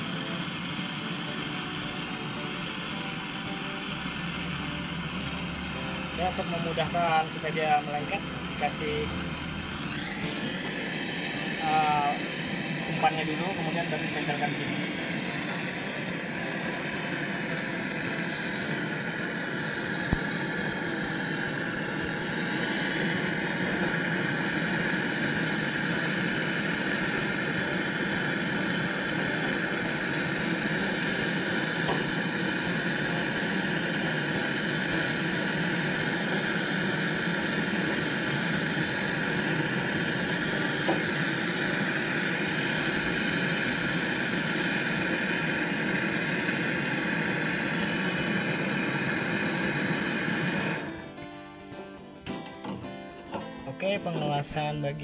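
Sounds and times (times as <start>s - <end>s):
gas torch flame hissing: 0.0s - 51.2s.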